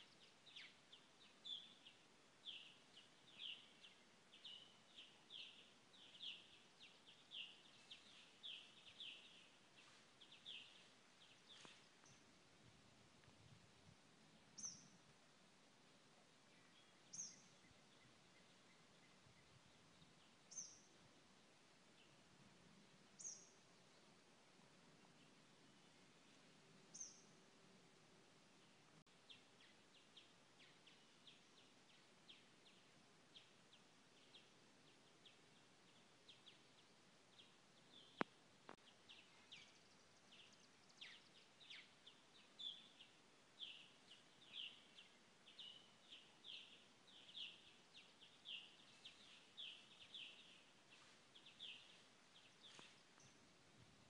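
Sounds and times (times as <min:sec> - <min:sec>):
small birds chirping: 0:00.0 - 0:12.5, 0:14.3 - 0:15.2, 0:15.8 - 0:27.5, 0:28.4 - 0:54.0.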